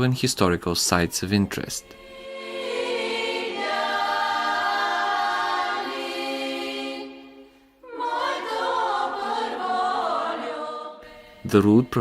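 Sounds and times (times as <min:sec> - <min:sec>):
choir singing held chords: 0:01.4 - 0:12.0.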